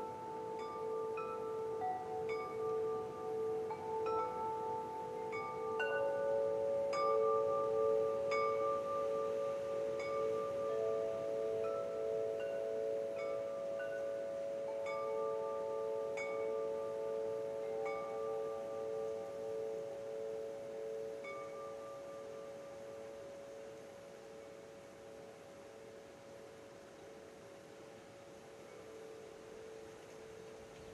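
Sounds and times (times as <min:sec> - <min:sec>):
wind chimes ringing: 0:00.0 - 0:30.9.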